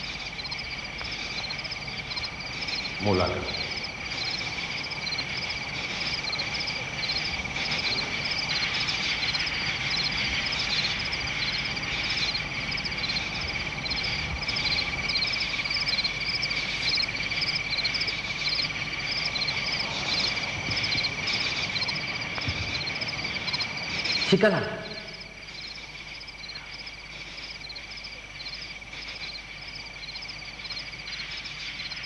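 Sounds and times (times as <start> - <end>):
frog calls: 0.0 - 32.0
high insect trill: 0.0 - 32.0.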